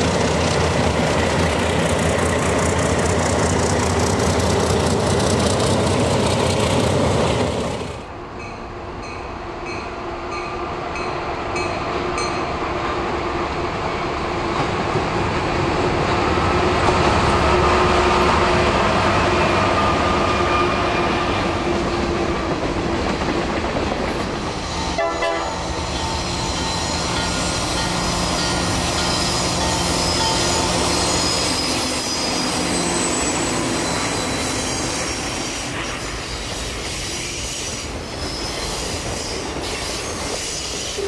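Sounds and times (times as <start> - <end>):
diesel locomotive engine drone: 0.0 - 41.0.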